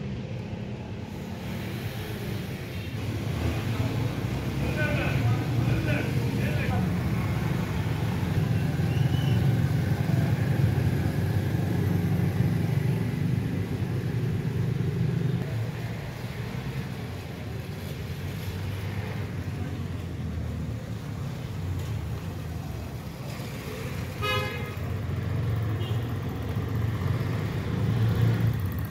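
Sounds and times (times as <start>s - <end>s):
steady traffic rumble: 0.0s - 28.9s
motorcycles passing on wet street: 0.2s - 28.9s.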